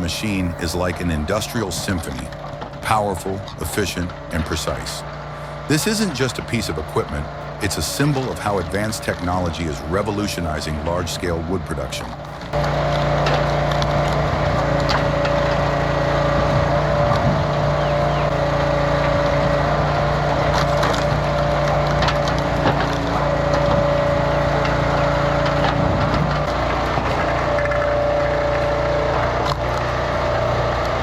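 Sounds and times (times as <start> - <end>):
wood crackling and splintering: 0.0 - 31.0
wood grinder humming: 0.0 - 31.0.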